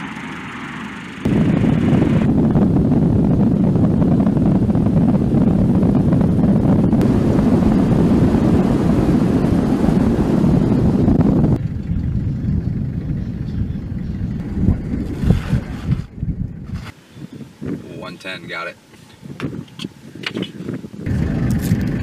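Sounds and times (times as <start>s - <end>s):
wind buffeting microphone: 1.2s - 22.0s.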